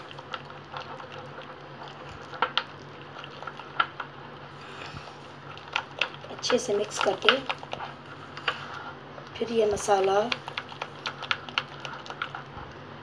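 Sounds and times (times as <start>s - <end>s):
spoon squishing thick paste: 0.0s - 12.8s.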